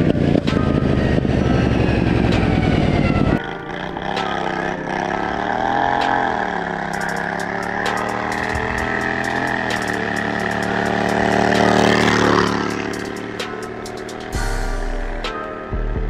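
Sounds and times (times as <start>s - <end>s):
distant small engine: 0.0s - 15.7s
mower engine running loud: 0.0s - 15.7s.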